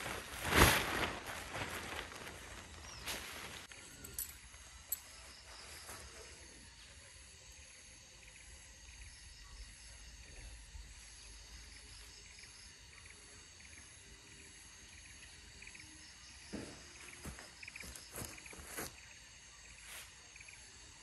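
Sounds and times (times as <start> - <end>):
insects buzzing: 0.0 - 21.0
insects chirping in pulses: 0.0 - 21.0.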